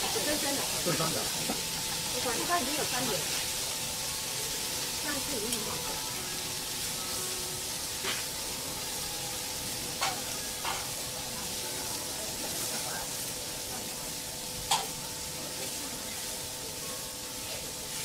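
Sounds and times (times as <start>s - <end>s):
steaks sizzling on a griddle: 0.0s - 18.0s.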